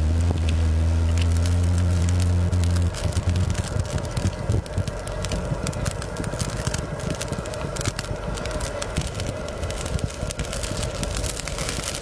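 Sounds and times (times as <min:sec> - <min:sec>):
broth boiling with pops: 0:00.0 - 0:12.0.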